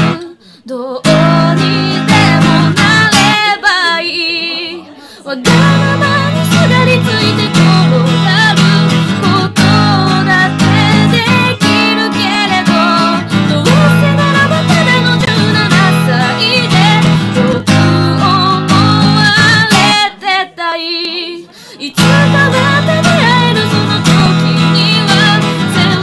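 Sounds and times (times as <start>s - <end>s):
acoustic guitar strumming: 0.0s - 0.4s, 1.0s - 4.8s, 5.4s - 20.6s, 21.9s - 26.0s
woman singing: 0.0s - 26.0s.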